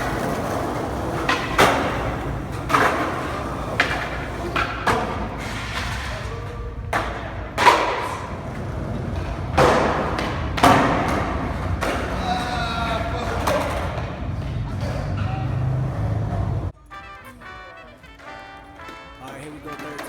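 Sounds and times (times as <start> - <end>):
skateboard knocks and clacks: 0.0 - 16.8, 17.5 - 20.0
skateboard wheels rumbling: 0.0 - 16.8.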